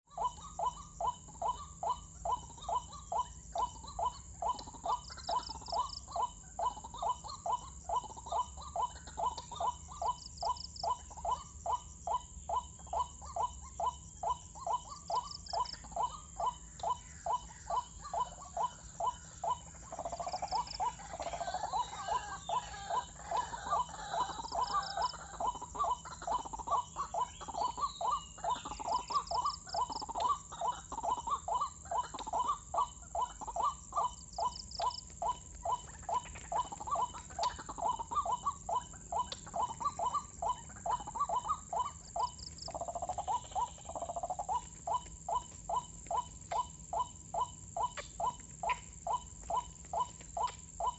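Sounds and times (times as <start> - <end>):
bird calling: 0.0 - 50.9
overlapping bird calls: 0.0 - 50.9.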